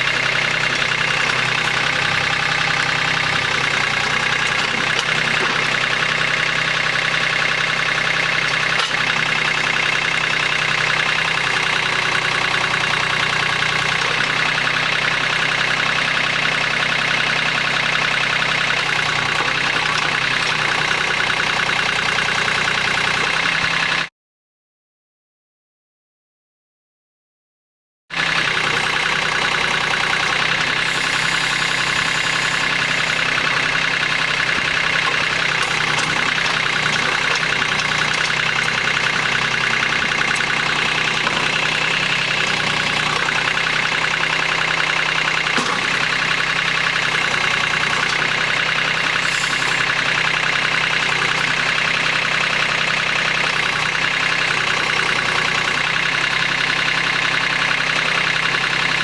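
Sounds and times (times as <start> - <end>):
tractor diesel engine running: 0.0 - 24.1, 28.1 - 59.0.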